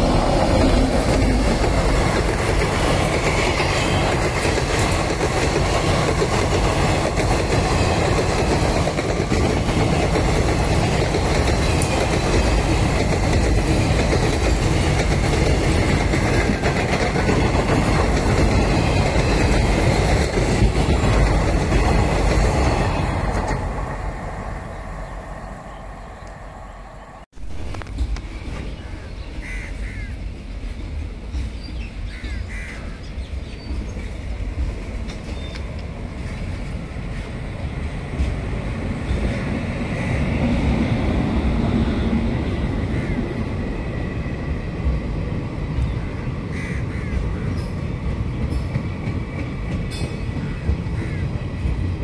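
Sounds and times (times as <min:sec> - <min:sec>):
train wheels rumbling on track: 0:00.0 - 0:52.0.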